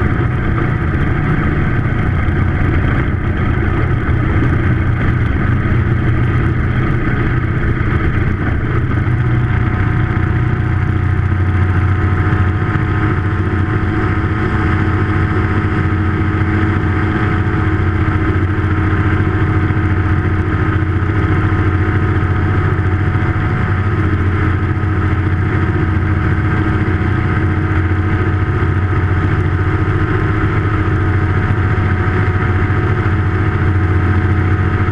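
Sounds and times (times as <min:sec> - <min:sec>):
propeller aircraft engine droning: 0:00.0 - 0:34.9.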